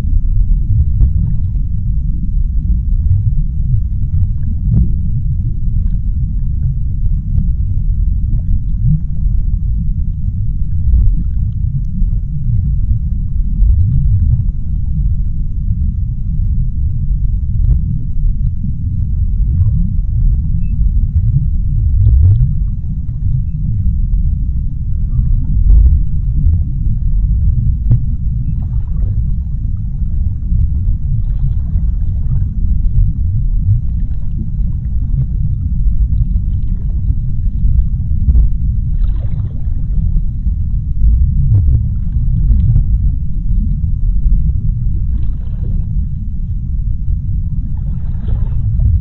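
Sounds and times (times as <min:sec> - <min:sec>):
deep underwater rumble: 0:00.0 - 0:49.0
faint bubbling swishes: 0:00.0 - 0:49.0.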